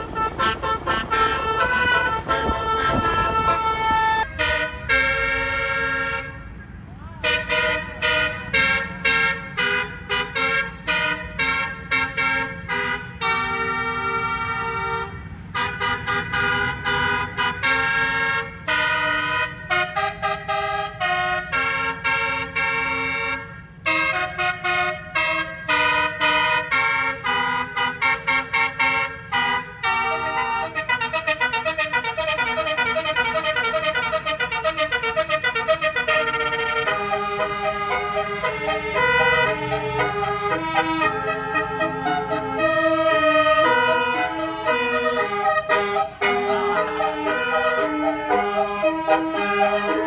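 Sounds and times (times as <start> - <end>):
bus air horn playing a tune: 0.0 - 50.0.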